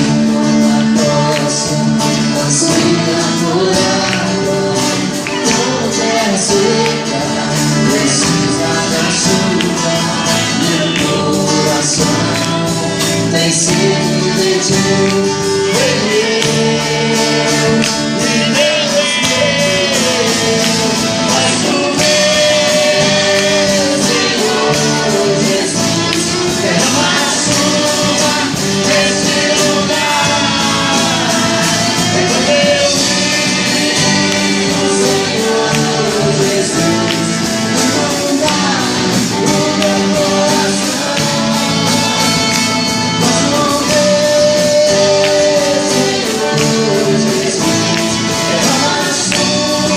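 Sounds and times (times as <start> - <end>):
band playing steady beat: 0.0 - 49.9
vocal group singing: 0.0 - 49.9.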